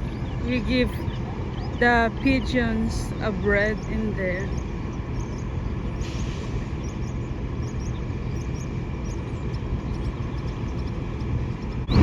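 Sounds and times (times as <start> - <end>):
small birds chirping: 0.0 - 12.0
vehicle hum and rumble: 0.0 - 12.0.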